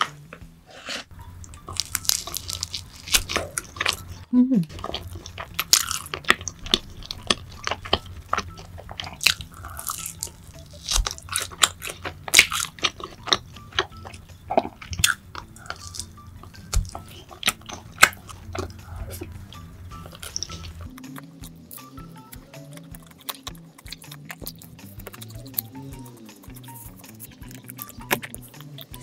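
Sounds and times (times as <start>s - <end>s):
person chewing crunchy food: 0.0s - 29.0s.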